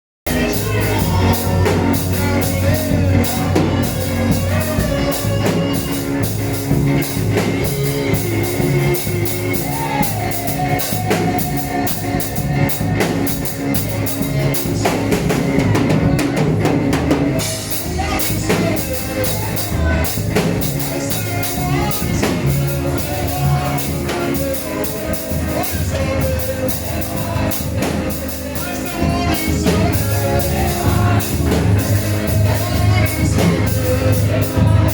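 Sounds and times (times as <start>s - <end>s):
drum kit steady beat: 0.3s - 34.9s
sustained bass notes: 0.3s - 34.9s.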